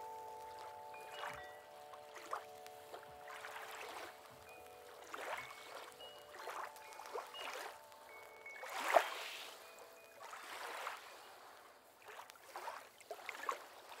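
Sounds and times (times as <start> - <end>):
faint held tones: 0.0 - 12.0
water lapping: 0.0 - 14.0.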